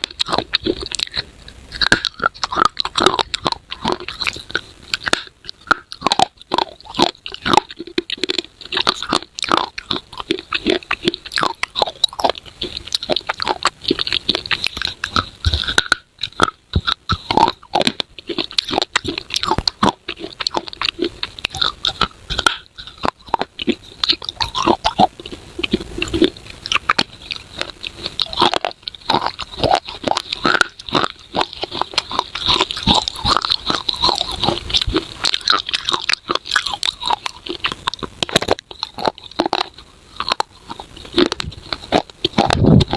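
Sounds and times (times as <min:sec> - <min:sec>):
biting and chewing clay crunches: 0:00.0 - 0:42.9.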